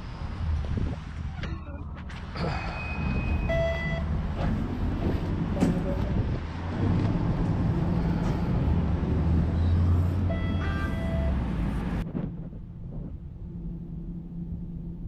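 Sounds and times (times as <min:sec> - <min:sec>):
low hum of tram equipment: 0:00.0 - 0:15.0.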